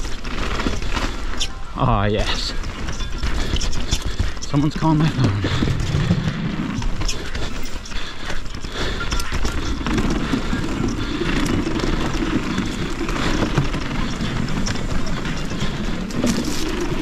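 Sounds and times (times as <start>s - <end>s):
bike chain and frame rattling: 0.0s - 17.0s
bike tyres rolling over dirt: 0.0s - 17.0s.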